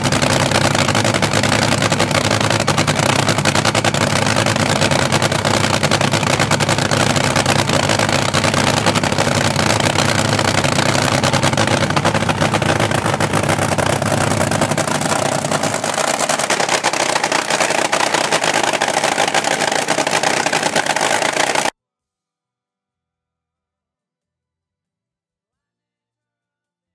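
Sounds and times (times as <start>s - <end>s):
dragster engine crackling at idle: 0.0s - 21.7s.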